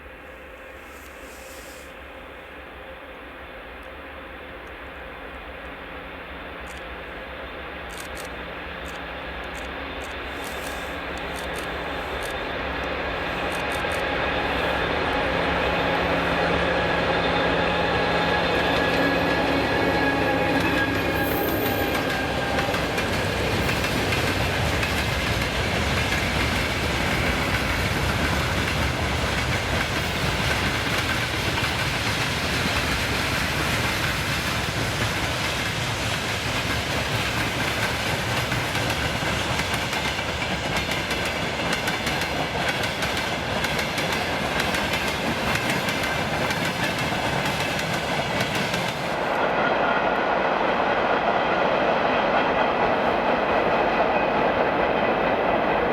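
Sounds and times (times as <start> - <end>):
train wheels clattering over rails: 8.8 - 55.9.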